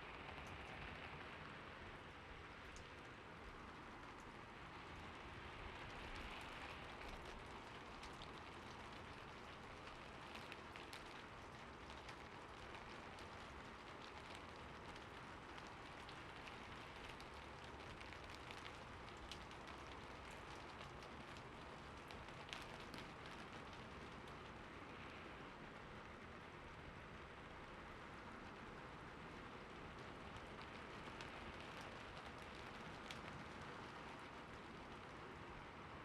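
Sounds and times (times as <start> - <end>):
light rain falling: 0.0 - 36.0.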